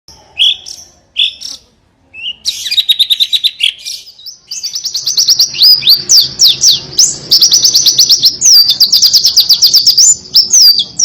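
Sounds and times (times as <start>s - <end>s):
bird singing chirps and trills: 0.1s - 11.0s.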